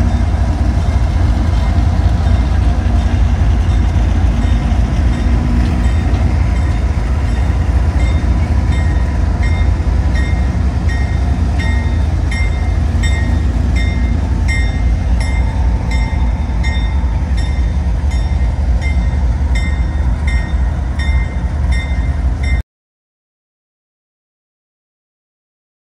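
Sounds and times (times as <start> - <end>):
locomotive engine rumble: 0.0 - 22.6.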